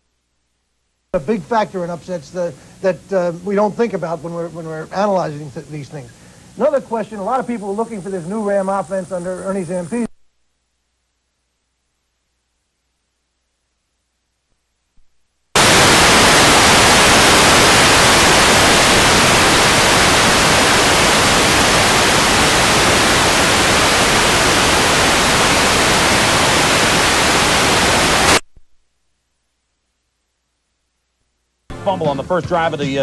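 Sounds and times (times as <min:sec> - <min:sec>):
videotape static hiss: 0:00.0 - 0:33.0.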